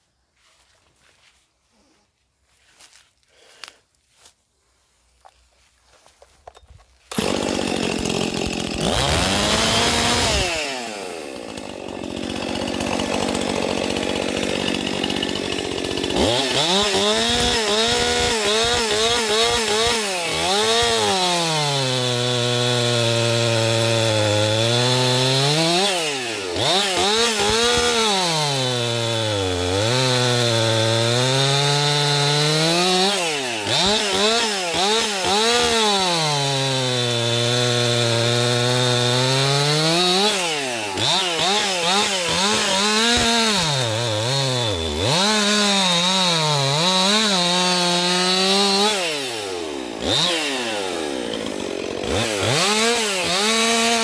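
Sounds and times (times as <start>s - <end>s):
chainsaw cutting wood: 6.4s - 54.0s.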